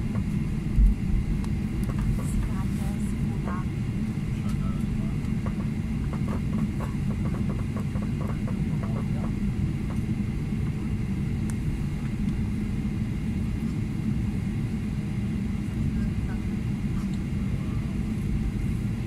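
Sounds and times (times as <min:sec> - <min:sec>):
airliner cabin low rumble: 0:00.0 - 0:19.0.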